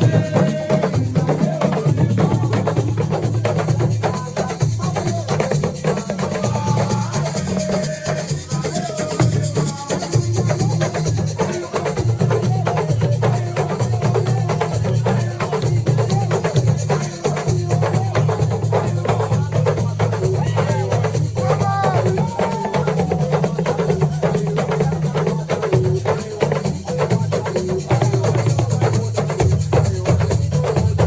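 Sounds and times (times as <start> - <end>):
fast hand drumming: 0.0 - 31.0
shaker rattle: 0.0 - 31.0
voices singing: 0.0 - 31.0.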